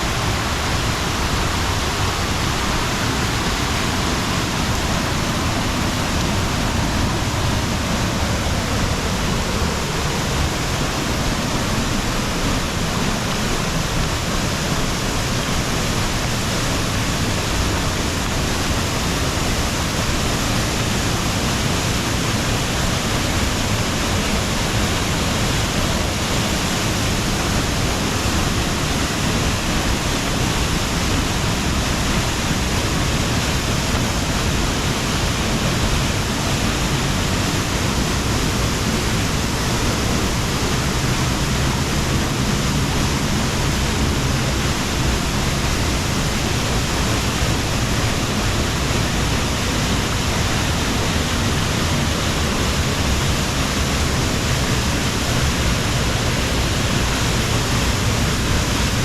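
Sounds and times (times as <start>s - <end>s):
rush of falling water: 0.0s - 59.0s.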